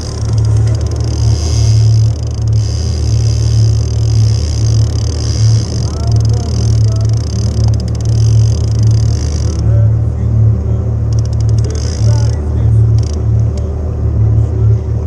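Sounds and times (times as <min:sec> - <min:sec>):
jet ski engine humming: 0:00.0 - 0:15.0.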